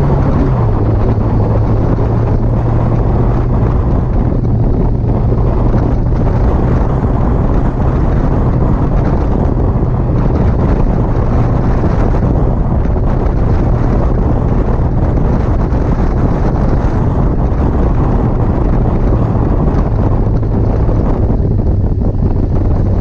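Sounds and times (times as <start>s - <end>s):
car engine running steadily: 0.0s - 23.0s
wind buffeting microphone: 0.0s - 23.0s.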